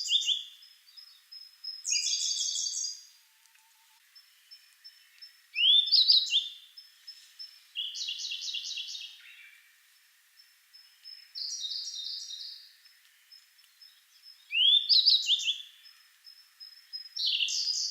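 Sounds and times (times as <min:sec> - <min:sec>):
birds singing: 0:00.0 - 0:17.9.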